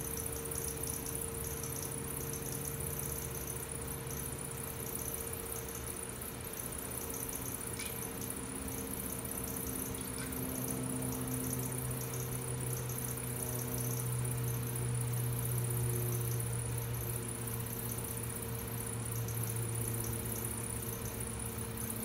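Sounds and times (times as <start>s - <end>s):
potter's wheel motor hum: 0.0s - 22.0s.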